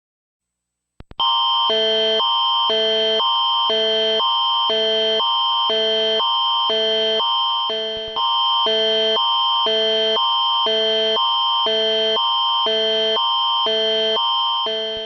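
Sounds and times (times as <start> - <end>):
electronic alarm alternating tone chords: 1.2 - 15.0
steady high tone: 1.2 - 15.0.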